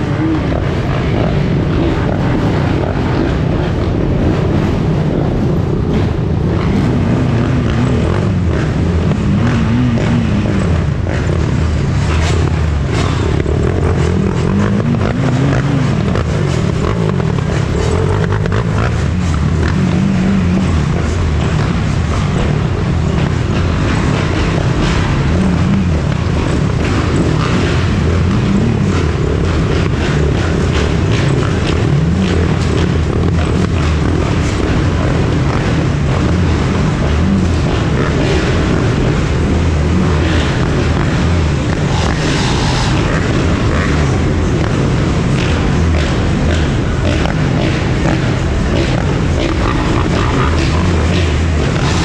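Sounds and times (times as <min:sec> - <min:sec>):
dirt bike engines running: 0:00.0 - 0:52.0.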